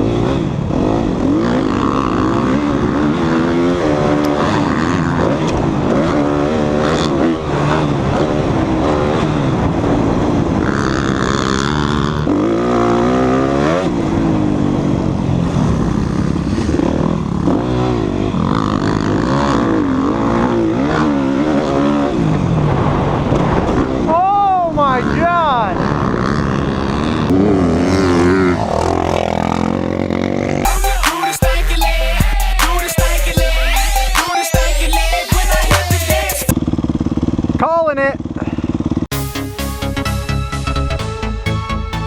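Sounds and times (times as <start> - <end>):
dirt bike engines revving: 0.0 - 39.1.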